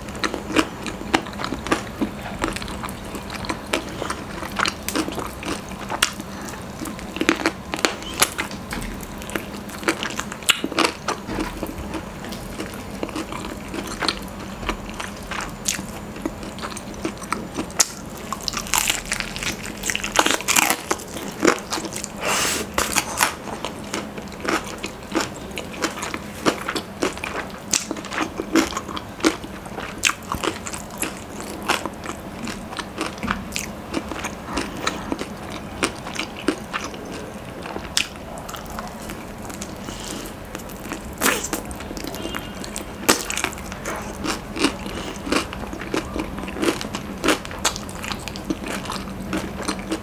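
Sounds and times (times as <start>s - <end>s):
crunching fried chicken: 0.0s - 50.0s.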